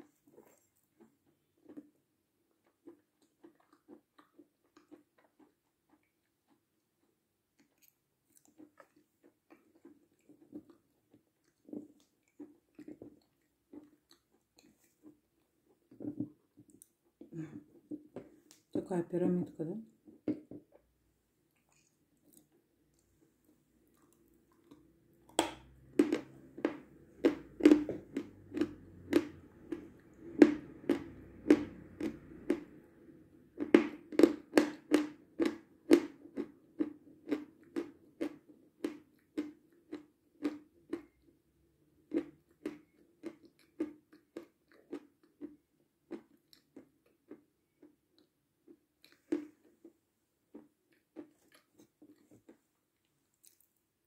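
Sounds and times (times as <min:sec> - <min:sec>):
person chewing with crunches: 0:00.0 - 0:18.7, 0:19.9 - 0:53.9.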